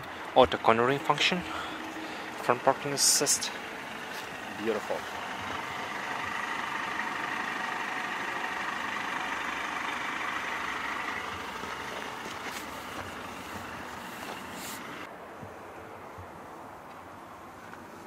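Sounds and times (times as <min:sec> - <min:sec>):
car engine idling: 0:00.0 - 0:15.1.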